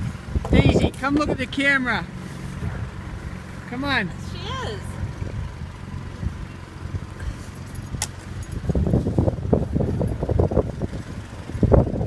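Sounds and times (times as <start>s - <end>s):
wind rumbling on microphone: 0.0s - 1.8s, 2.5s - 3.4s, 4.8s - 12.0s.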